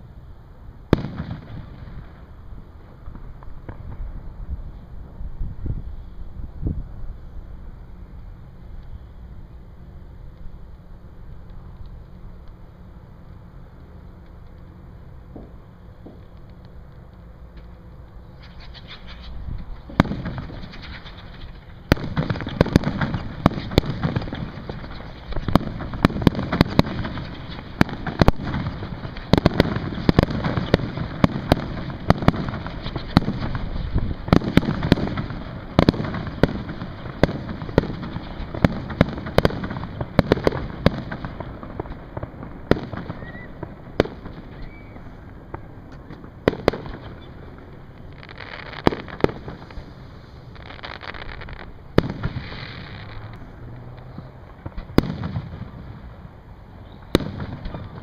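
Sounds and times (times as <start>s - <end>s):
fireworks bangs and crackles: 0.9s - 5.7s, 15.2s - 58.0s.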